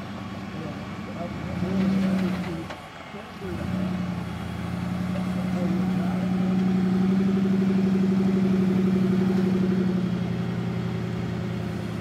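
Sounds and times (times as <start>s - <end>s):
buggy engine running under load: 0.0s - 12.0s.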